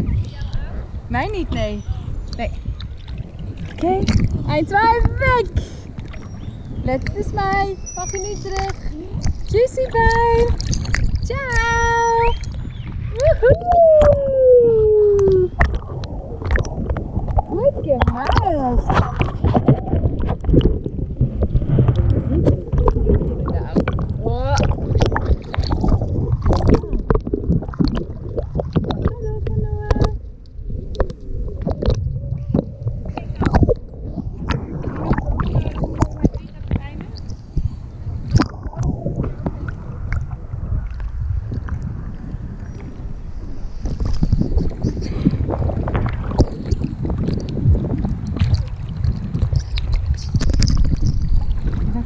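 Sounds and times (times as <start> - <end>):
low rumble: 0.0 - 52.0
water sloshing and splashing: 0.0 - 52.0
wind buffeting microphone: 0.0 - 52.0.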